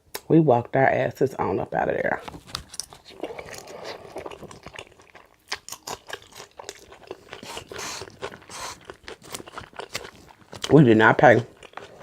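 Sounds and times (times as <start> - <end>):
person chewing crunchy salad: 2.4 - 12.0.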